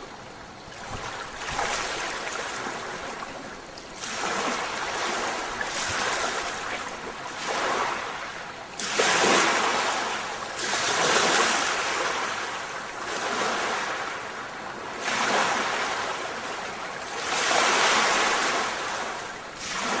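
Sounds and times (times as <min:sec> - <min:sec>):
ocean waves rushing in: 0:00.0 - 0:20.0.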